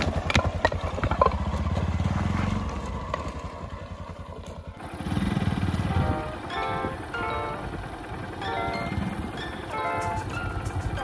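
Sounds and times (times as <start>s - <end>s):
motorcycle engine pulling away: 0.0s - 11.0s.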